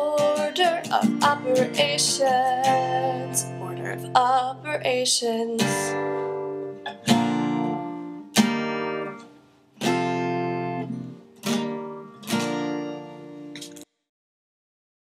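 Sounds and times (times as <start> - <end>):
strummed acoustic guitar chords: 0.0 - 13.8.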